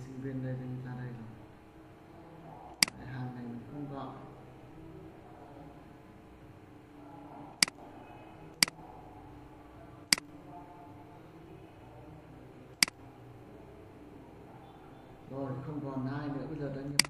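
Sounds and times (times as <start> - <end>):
low steady background hum: 0.0 - 17.0.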